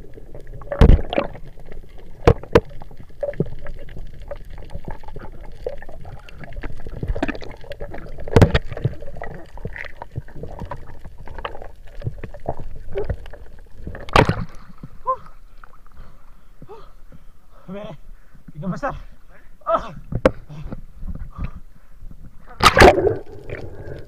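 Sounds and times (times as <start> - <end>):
water sloshing underwater: 0.0 - 17.4, 20.0 - 24.0.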